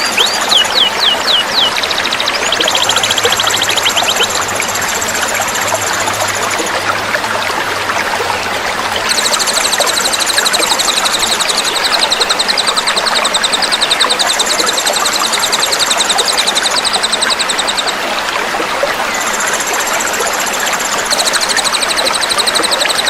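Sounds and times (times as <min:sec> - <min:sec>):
songbirds trilling: 0:00.0 - 0:06.8, 0:09.0 - 0:23.0
running water: 0:00.0 - 0:23.0.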